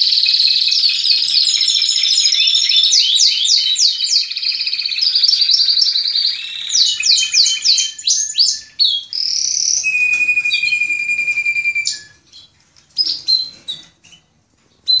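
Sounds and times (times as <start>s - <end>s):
canaries singing: 0.0s - 15.0s.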